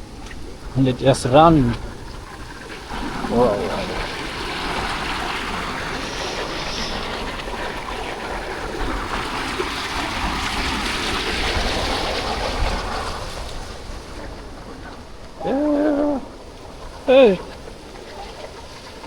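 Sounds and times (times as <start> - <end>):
floodwater rushing: 0.0 - 19.0
wind rumble on microphone: 0.0 - 19.0.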